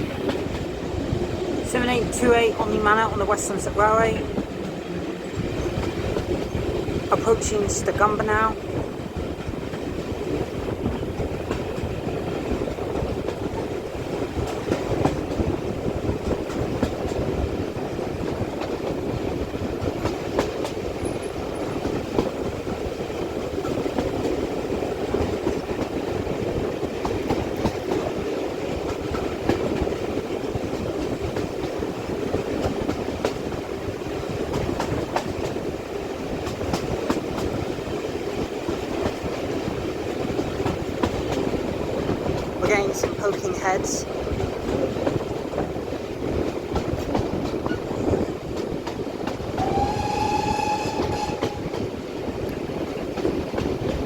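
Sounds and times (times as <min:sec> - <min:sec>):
train coaches rumbling: 0:00.0 - 0:54.0.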